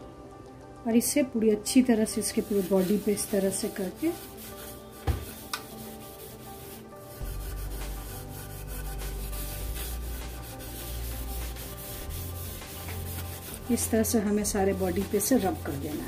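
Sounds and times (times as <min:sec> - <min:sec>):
scouring pad scrubbing plastic: 0:02.3 - 0:16.0.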